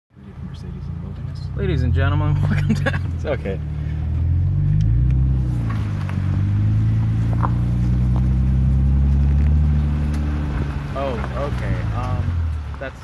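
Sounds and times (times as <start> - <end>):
car engine running: 0.2 - 13.0.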